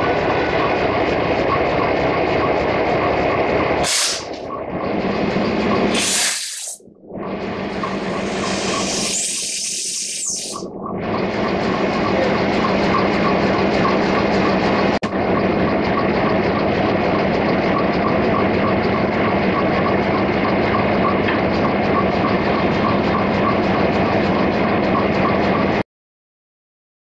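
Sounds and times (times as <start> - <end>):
locomotive engine idling: 0.0 - 6.1, 7.1 - 9.2, 10.6 - 25.8.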